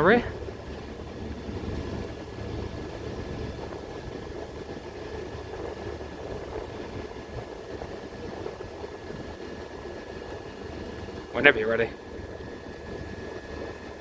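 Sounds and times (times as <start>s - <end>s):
faint high whine: 0.0s - 14.0s
train equipment humming: 0.0s - 14.0s.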